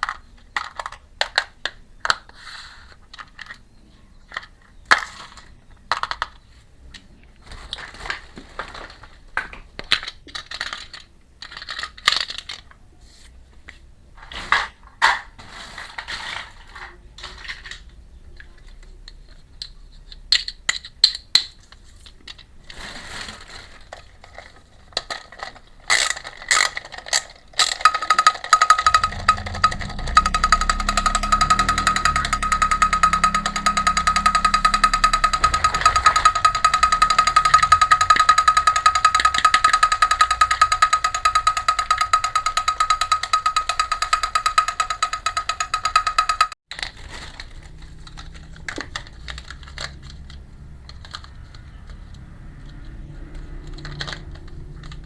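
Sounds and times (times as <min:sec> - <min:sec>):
toy kitchen pieces clicking: 0:00.0 - 0:07.1, 0:07.7 - 0:12.8, 0:15.9 - 0:22.7, 0:23.7 - 0:55.0.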